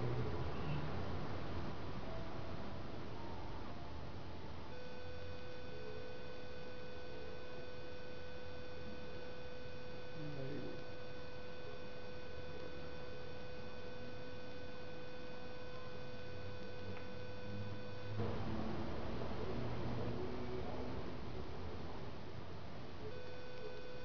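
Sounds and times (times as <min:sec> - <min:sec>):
constant hiss: 0:00.0 - 0:24.0
steady tone: 0:00.0 - 0:24.0.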